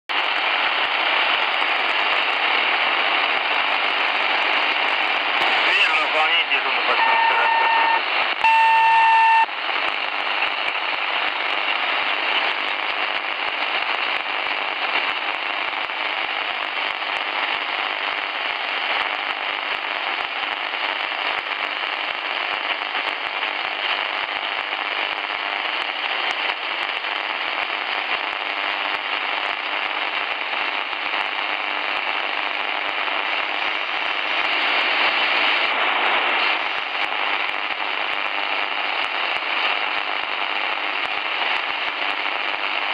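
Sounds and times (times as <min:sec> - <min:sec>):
radio band noise hiss: 0:00.1 - 0:42.9
radio crackles: 0:00.1 - 0:42.9.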